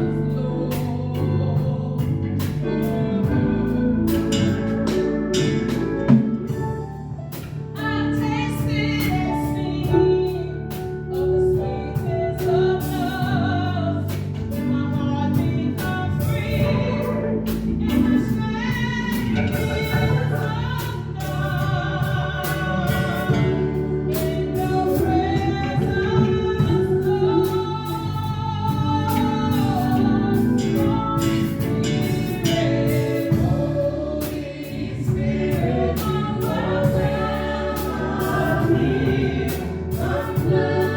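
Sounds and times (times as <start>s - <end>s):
band accompaniment: 0.0s - 40.9s
group singing worship song: 0.0s - 40.9s
steady drum beat: 0.7s - 10.2s, 12.0s - 40.9s.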